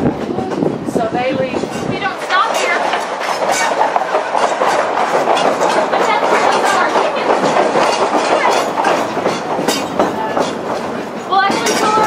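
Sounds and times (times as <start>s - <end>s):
train wheels rumbling on rail: 0.0s - 12.0s
clicks over rail joints: 1.6s - 12.0s.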